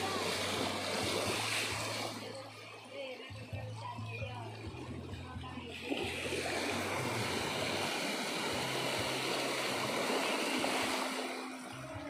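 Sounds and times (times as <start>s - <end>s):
water rushing down a channel: 0.0s - 12.0s
water splashing: 0.0s - 12.0s.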